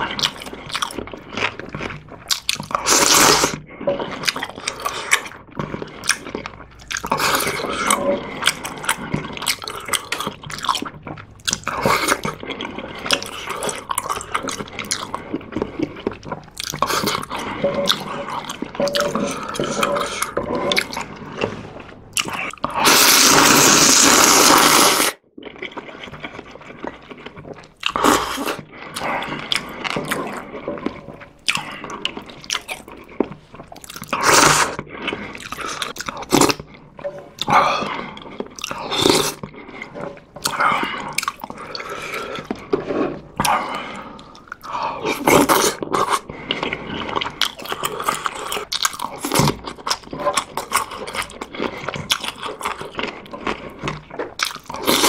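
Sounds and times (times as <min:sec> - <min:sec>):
chewing and wet mouth sounds: 0:00.0 - 0:55.0
slurping noodles: 0:00.0 - 0:55.0.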